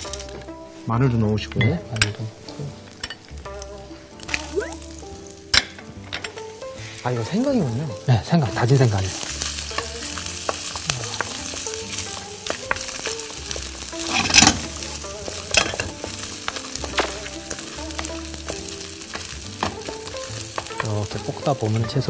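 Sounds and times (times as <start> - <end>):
food sizzling in hot oil: 0.0 - 22.0
wooden spoon scraping a pan: 2.0 - 22.0.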